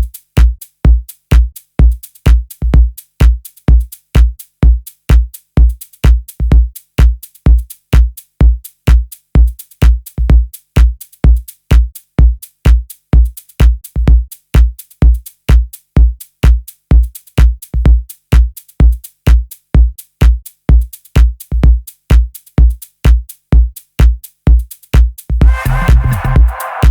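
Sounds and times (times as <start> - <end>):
electronic kick drum beat: 0.0 - 26.9.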